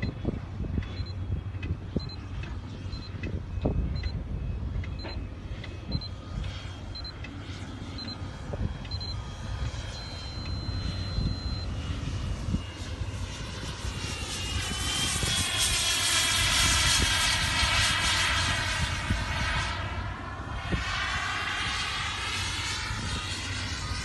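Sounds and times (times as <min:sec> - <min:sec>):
electric ducted fans whining: 0:00.0 - 0:24.0
wind rumbling on microphone: 0:00.0 - 0:24.0.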